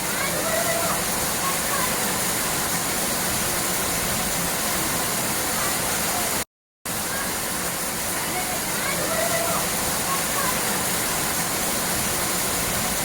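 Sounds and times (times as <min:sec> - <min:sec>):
falling water rushing: 0:00.0 - 0:13.0.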